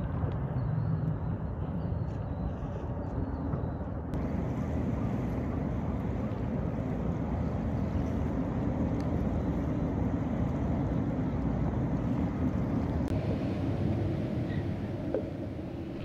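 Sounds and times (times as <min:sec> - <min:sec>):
low rumbling over water: 0:00.0 - 0:16.0.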